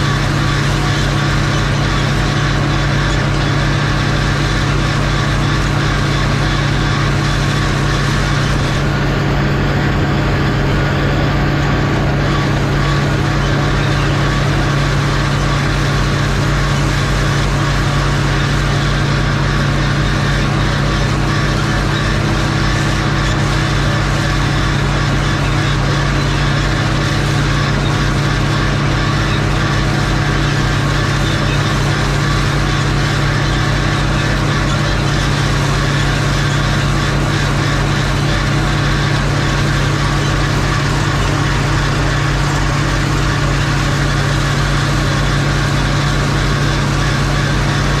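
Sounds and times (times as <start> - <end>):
tractor engine drone: 0.0 - 48.0.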